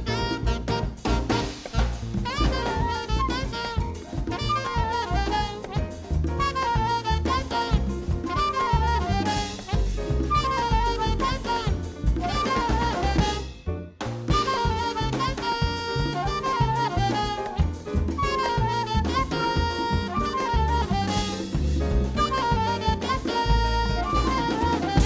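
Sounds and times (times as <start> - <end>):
saxophone melody: 0.0 - 13.7, 14.3 - 25.0
drum kit: 0.0 - 25.0
walking bass: 0.0 - 25.0.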